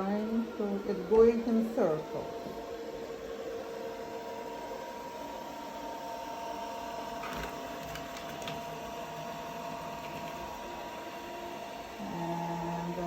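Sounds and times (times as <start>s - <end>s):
robot vacuum motor whine: 0.2s - 13.0s.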